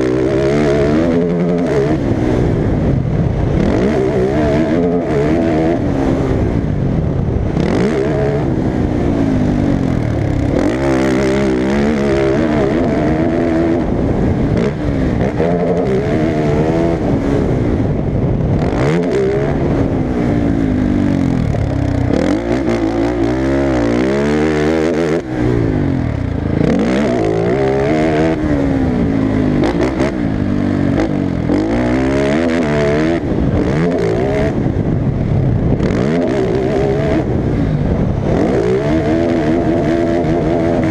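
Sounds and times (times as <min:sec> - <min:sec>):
off-road racing engine revving: 0:00.0 - 0:40.9.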